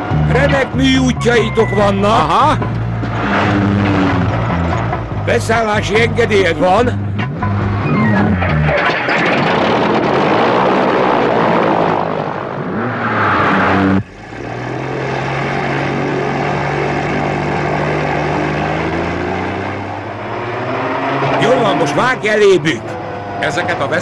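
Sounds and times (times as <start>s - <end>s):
car engine running hard: 0.0s - 24.0s
propeller aircraft engine droning: 0.0s - 24.0s.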